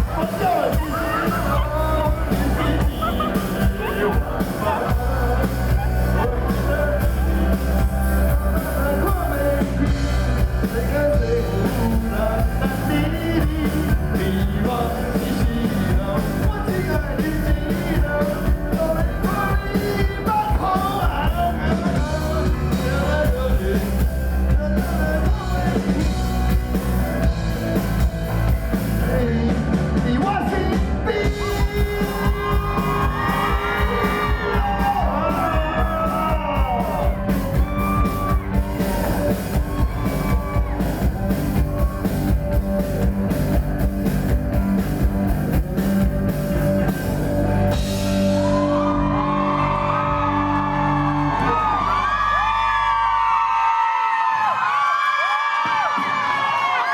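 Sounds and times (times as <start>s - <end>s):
electric guitar: 0.0s - 53.1s
bass guitar: 0.0s - 53.6s
drum kit: 0.0s - 53.6s.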